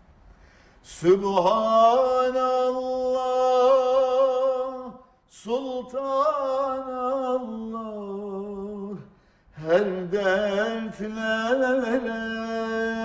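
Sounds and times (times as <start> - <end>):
man singing unaccompanied hymn: 0.8 - 13.0.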